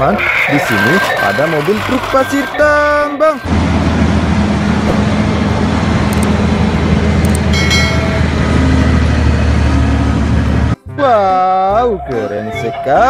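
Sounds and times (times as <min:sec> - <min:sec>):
large diesel engine running: 0:00.0 - 0:10.8.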